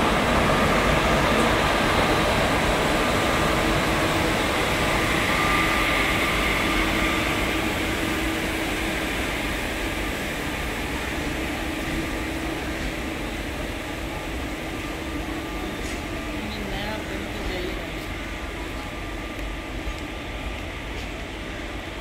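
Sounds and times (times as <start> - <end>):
train rolling on rails: 0.0 - 22.0.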